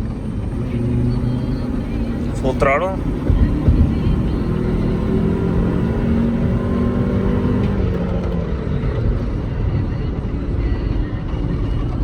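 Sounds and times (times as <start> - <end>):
car engine accelerating at full throttle: 0.0 - 12.0.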